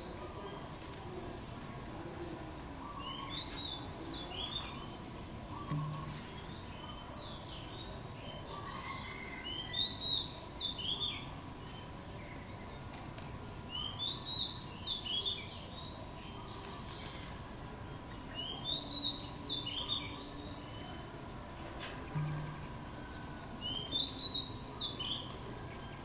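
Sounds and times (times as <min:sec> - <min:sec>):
background hiss: 0:00.0 - 0:26.0
songbird singing: 0:00.0 - 0:26.0.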